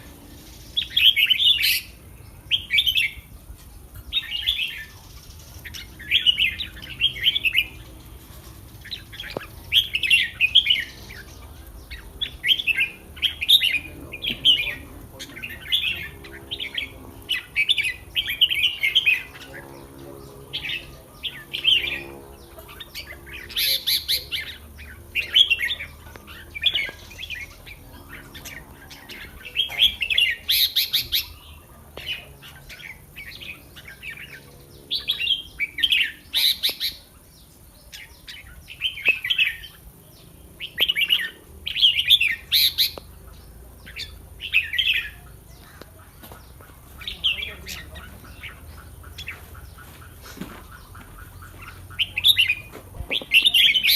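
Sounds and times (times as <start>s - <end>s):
birds singing warbling phrases: 0.0s - 53.9s.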